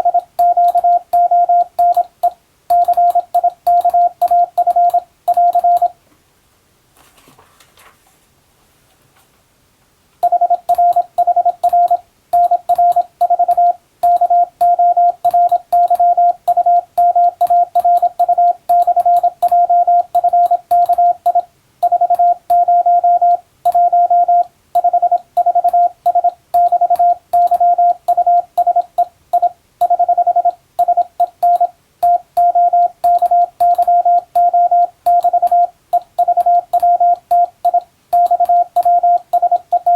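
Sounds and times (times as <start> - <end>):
morse code tone: 0.0 - 5.9, 10.2 - 39.9.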